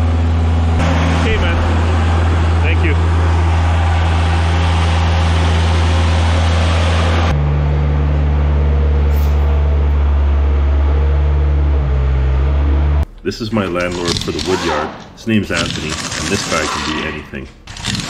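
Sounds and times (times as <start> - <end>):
low machine hum: 0.0 - 16.7
diesel engine droning: 0.0 - 18.0.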